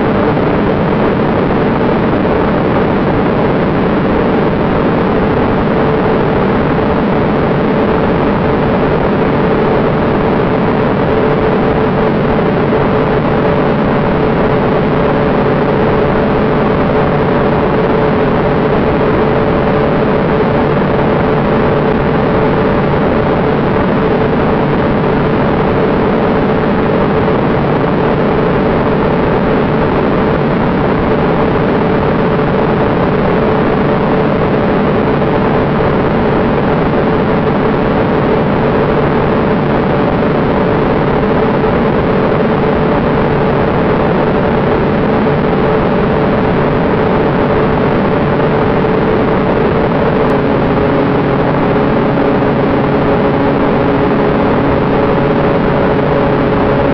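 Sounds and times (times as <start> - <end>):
aircraft engine drone: 0.0 - 56.9
rush of airflow: 0.0 - 56.9.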